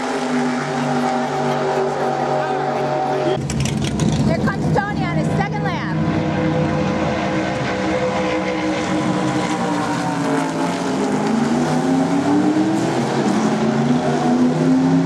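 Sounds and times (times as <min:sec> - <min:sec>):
race car engine passing by: 0:00.0 - 0:15.0.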